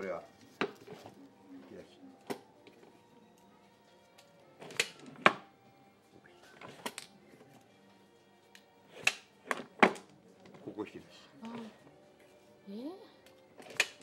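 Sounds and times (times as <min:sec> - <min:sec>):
faint music: 0:00.0 - 0:14.0.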